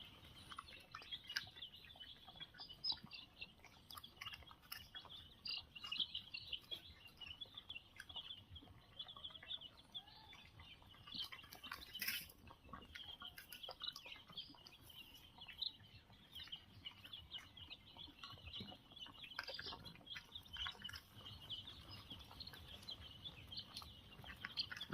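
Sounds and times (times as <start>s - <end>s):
chicks peeping: 0.0s - 24.9s.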